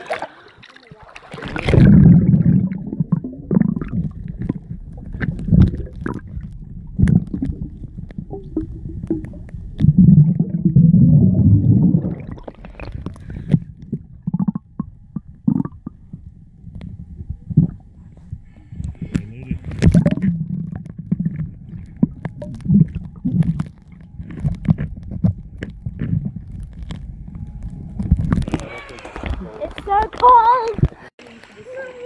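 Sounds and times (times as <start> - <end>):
muffled underwater water sloshing: 0.0 - 32.0.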